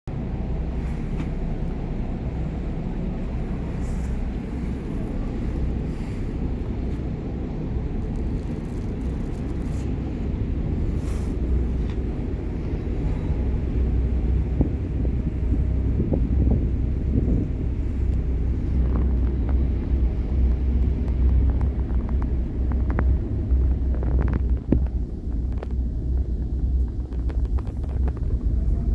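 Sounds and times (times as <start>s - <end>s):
ferry engines rumbling: 0.1s - 28.9s
wind noise on microphone: 0.1s - 28.9s.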